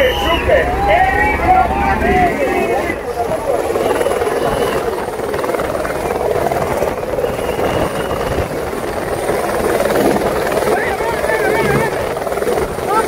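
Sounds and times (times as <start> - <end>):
helicopter rotor and engine running: 0.0 - 13.0.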